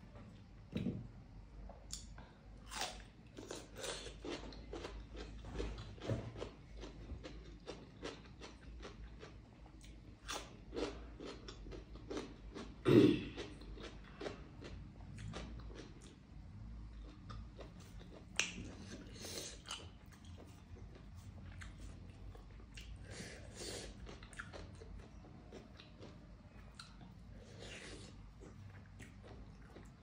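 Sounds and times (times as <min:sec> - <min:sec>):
chewing and mouth sounds: 0:01.7 - 0:16.2, 0:16.9 - 0:30.0.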